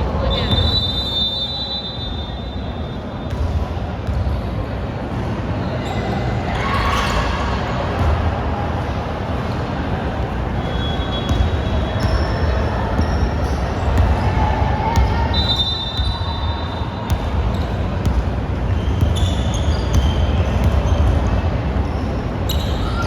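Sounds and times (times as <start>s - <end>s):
sneakers squeaking: 0.1s - 4.7s, 5.3s - 8.3s, 9.4s - 23.0s.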